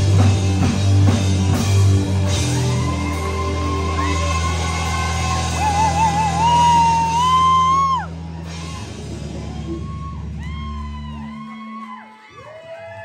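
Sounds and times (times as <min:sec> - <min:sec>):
crowd whoops and yells: 0:02.0 - 0:13.0.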